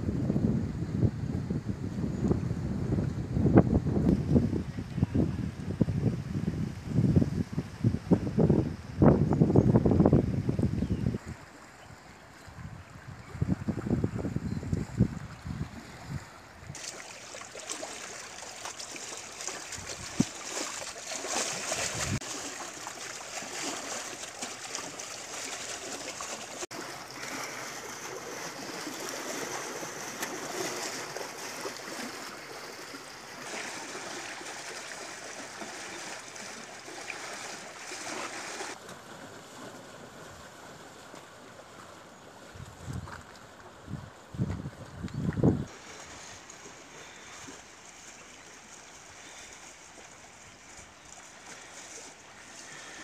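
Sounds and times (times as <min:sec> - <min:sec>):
water splashing and lapping: 0:09.8 - 0:53.0.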